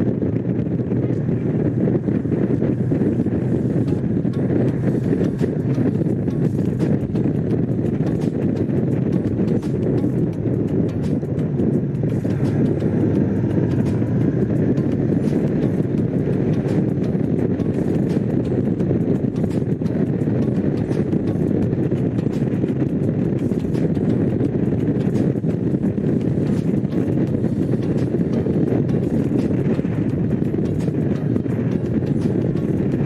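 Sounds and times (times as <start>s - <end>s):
motorcycle engine cruising: 0.0s - 33.0s.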